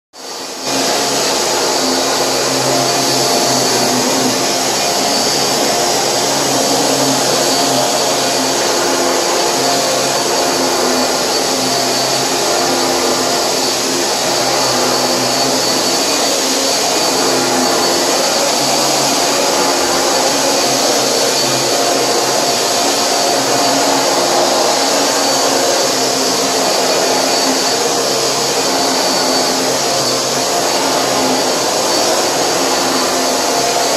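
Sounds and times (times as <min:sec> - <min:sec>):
vacuum cleaner running: 0:00.2 - 0:33.9.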